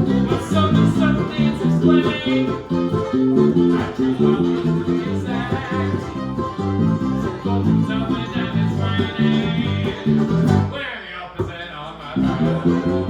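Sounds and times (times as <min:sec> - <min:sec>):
bluegrass band playing: 0:00.0 - 0:11.0, 0:12.1 - 0:13.0.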